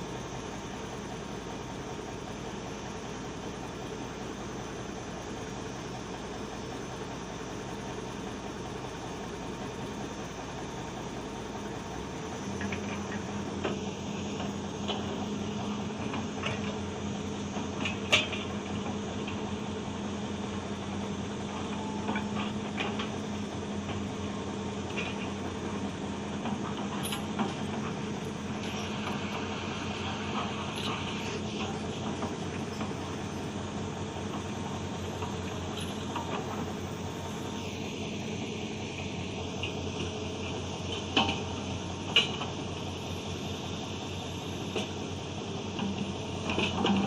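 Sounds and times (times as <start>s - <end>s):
heavy diesel machine running: 0.0s - 47.0s.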